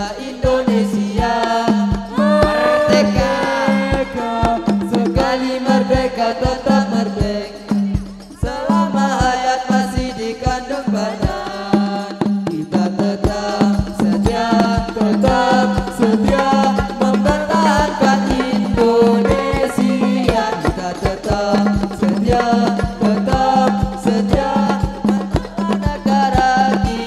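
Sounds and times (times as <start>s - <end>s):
frame drums beating: 0.0s - 27.0s
group of voices singing: 0.0s - 27.0s.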